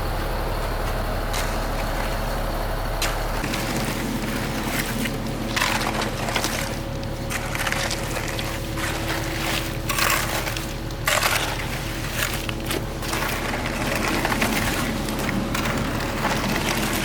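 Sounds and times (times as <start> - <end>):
engine hum: 0.0 - 17.0
gritty crunching and scraping: 0.0 - 17.0.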